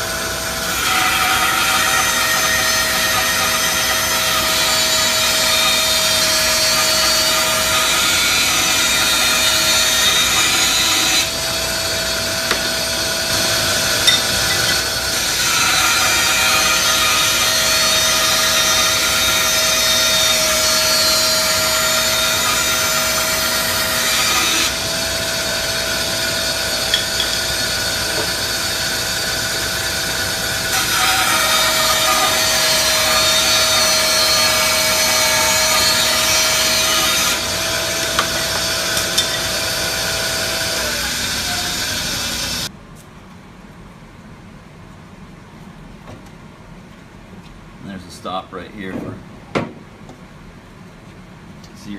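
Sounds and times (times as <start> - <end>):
bandsaw cutting wood: 0.0 - 42.7.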